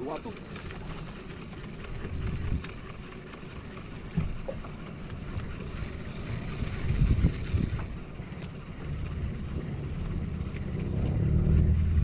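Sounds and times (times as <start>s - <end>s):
water lapping at hull: 0.0s - 12.0s
wind rumbling on microphone: 0.8s - 3.1s, 4.1s - 12.0s.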